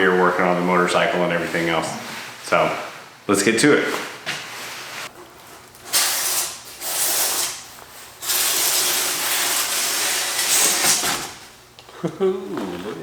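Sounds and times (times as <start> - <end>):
foam panels scraping: 0.1 - 3.1, 3.7 - 11.5.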